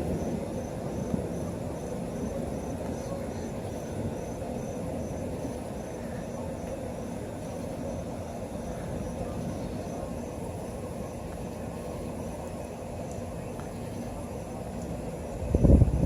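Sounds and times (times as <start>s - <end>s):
faint insect chirping: 0.0s - 16.0s
low outdoor rumble: 0.0s - 16.0s.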